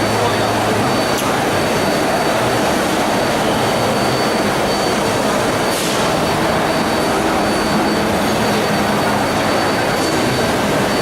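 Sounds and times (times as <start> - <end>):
machine tools running: 0.0 - 11.0
thin high whine: 0.0 - 11.0.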